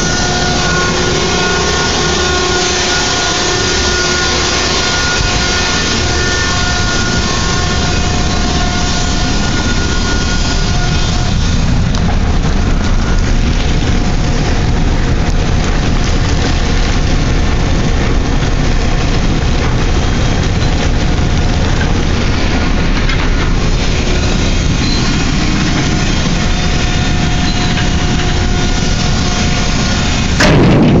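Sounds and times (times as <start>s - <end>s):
faint whining tones: 0.0s - 30.5s
heavy machinery din: 0.0s - 31.0s.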